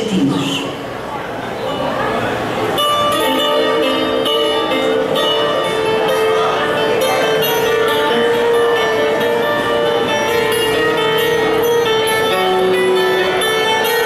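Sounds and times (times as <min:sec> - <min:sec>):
plucked guitar melody: 0:01.8 - 0:14.0.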